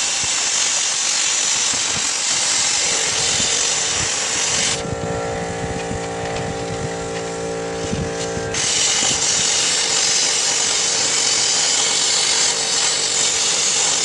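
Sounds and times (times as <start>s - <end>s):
power tool cutting steel: 0.0s - 14.0s
steady pitched hum: 0.0s - 14.0s.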